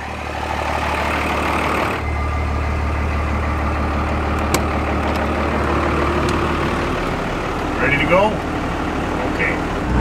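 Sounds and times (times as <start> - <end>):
pickup truck engine idling: 0.0 - 10.0.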